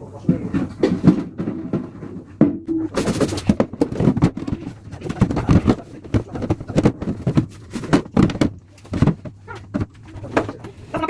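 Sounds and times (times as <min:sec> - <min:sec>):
objects clattering and knocking: 0:00.0 - 0:11.0
rustling: 0:00.1 - 0:11.0.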